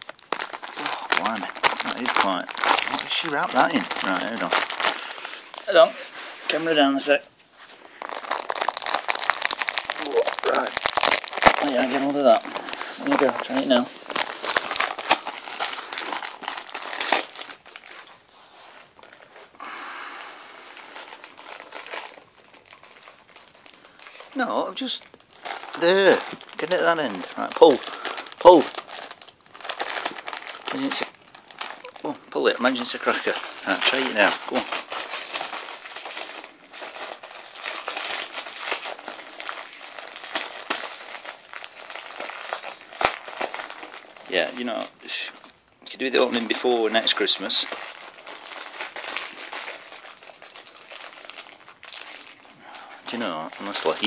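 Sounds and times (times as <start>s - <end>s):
wrapping paper crinkling: 0.0s - 54.0s.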